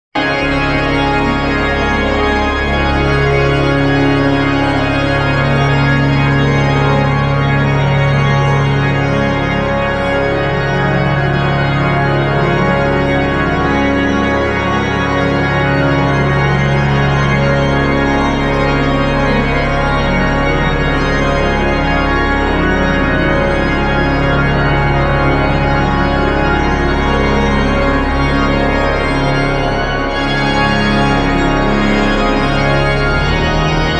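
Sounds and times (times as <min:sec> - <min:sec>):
deep organ pedal bass: 0:00.2 - 0:33.9
pipe organ sustained chords: 0:00.2 - 0:33.9.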